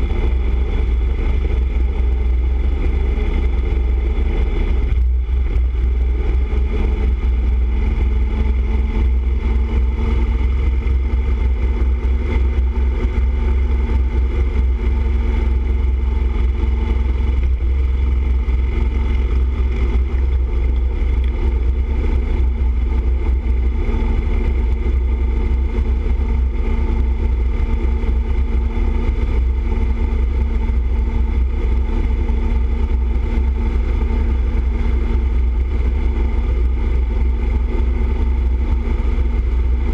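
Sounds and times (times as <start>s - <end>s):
motorcycle engine hum: 0.0s - 39.9s
wind and road noise: 0.0s - 39.9s.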